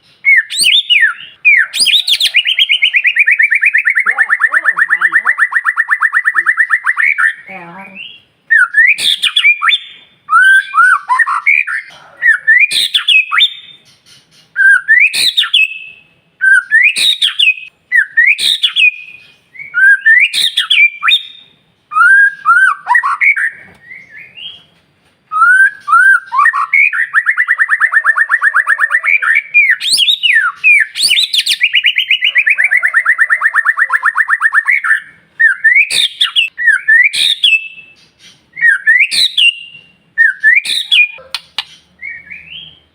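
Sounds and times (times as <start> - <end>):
bird whistling upward phrases: 0.2 - 13.8, 14.6 - 24.6, 25.3 - 41.2, 42.0 - 42.8.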